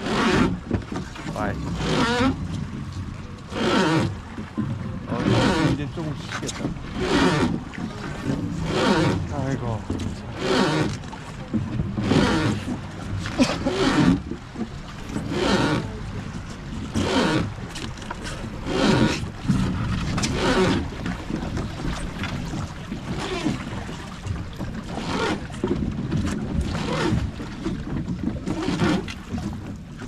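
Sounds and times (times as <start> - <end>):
wooden oar creaking: 0.0 - 30.0.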